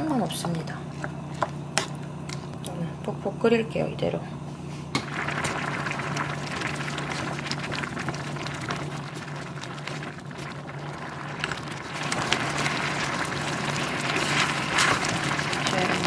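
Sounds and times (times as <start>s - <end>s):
rice boiling in a pot: 0.0s - 16.0s
steady low hum: 0.0s - 16.0s.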